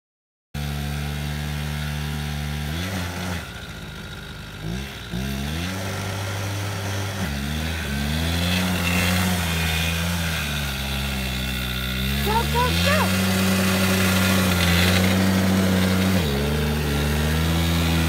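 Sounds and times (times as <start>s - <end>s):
small snowmobile engine running: 0.6s - 18.0s.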